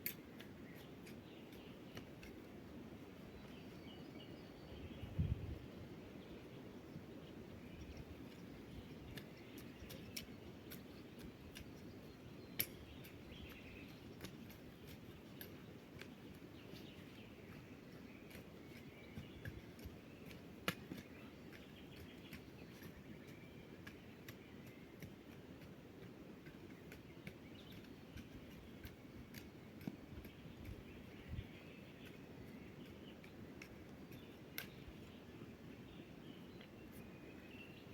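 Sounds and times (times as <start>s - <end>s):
faint outdoor background: 0.0s - 37.9s.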